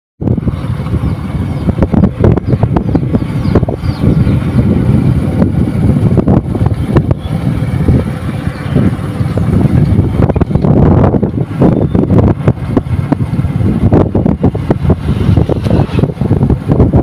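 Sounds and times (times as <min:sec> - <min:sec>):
gusty thumps: 0:00.2 - 0:17.0
low rumble of travel: 0:00.2 - 0:17.0
wind buffeting microphone: 0:00.2 - 0:17.0.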